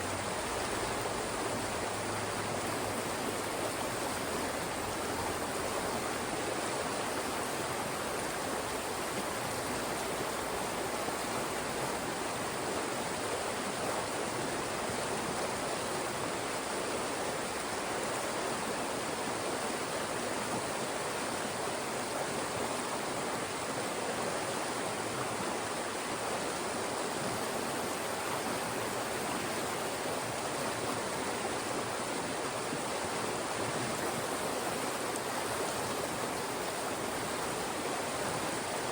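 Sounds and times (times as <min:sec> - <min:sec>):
stream rushing between rocks: 0:00.0 - 0:38.9.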